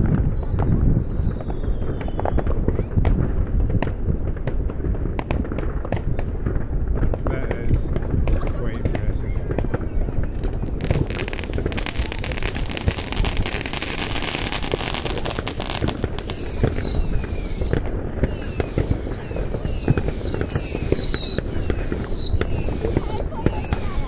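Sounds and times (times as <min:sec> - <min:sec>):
fireworks bangs and crackling: 0:00.0 - 0:24.0
whistling fireworks: 0:00.0 - 0:24.0.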